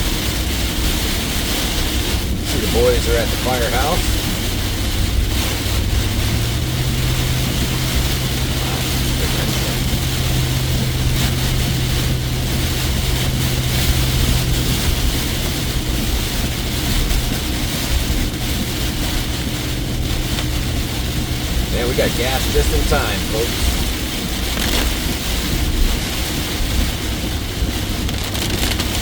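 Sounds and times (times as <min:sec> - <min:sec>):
engine and road drone: 0:00.0 - 0:29.0
heavy rain pounding on roof: 0:00.0 - 0:29.0.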